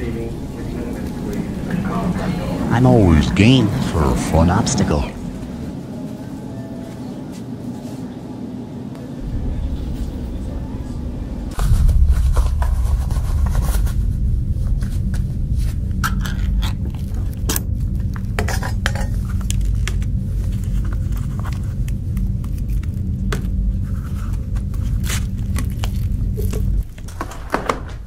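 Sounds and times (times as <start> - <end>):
loud steady low hum: 0.0 - 27.3.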